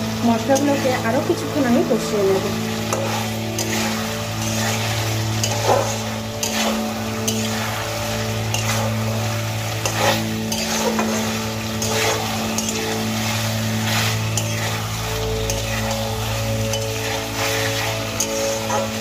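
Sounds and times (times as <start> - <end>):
oil sizzling: 0.0 - 19.0
metal spatula scraping a pan: 2.4 - 19.0.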